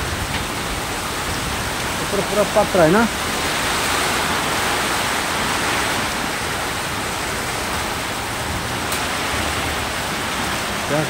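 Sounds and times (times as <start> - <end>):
heavy rain on a tin roof: 0.0 - 11.0.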